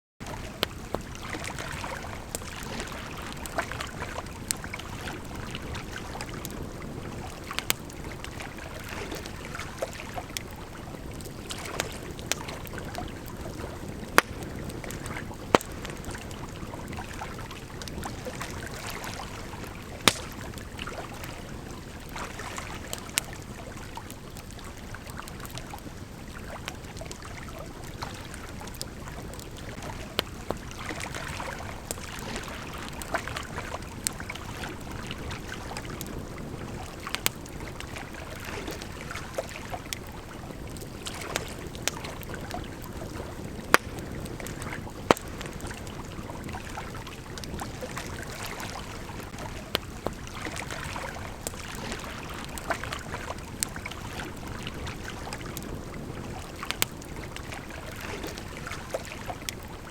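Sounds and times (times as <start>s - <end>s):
campfire crackling and popping: 0.2s - 59.9s
river flowing: 0.2s - 59.9s.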